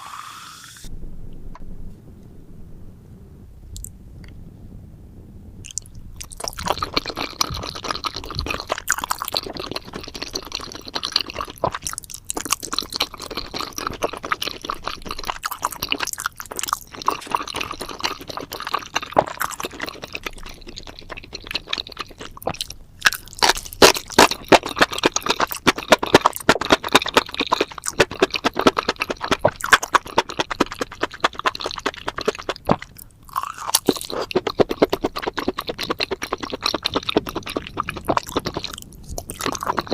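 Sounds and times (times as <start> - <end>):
wet crunchy chewing: 5.6 - 39.9.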